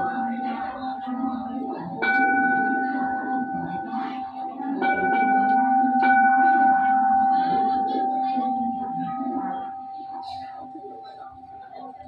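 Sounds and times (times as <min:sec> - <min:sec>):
bowl bell ringing: 0:00.0 - 0:11.8.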